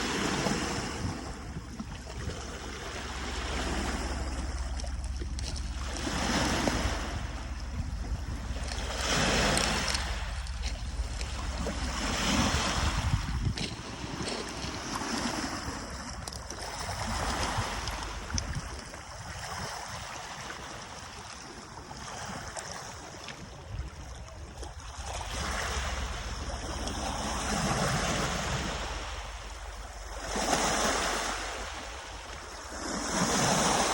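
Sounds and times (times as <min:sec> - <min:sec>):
waves washing onto shore: 0:00.0 - 0:33.9
wind rumble on microphone: 0:00.0 - 0:33.9.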